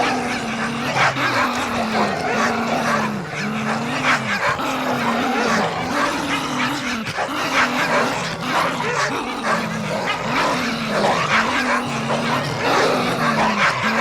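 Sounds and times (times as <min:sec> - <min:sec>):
dogs barking and snarling: 0:00.0 - 0:14.0
low dog growl: 0:00.0 - 0:14.0.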